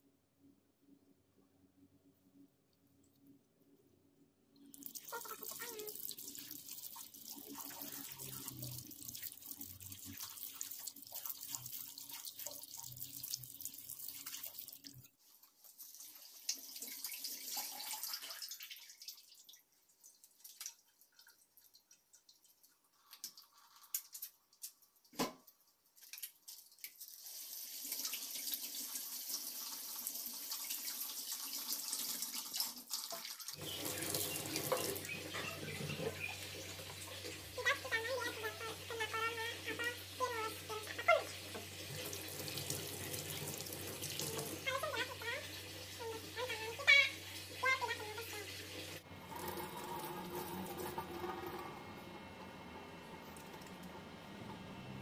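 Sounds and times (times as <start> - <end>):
tap water running into sink: 4.8 - 54.9.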